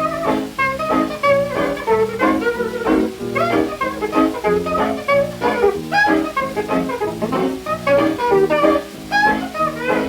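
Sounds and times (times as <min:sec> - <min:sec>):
jazz dance band on old record: 0:00.0 - 0:10.0.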